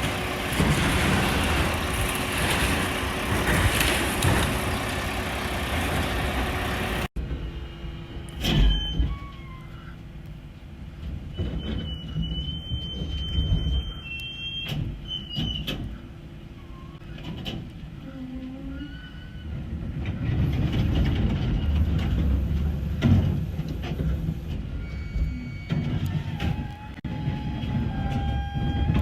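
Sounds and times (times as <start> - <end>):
heavy vehicle rumble: 0.0 - 29.0.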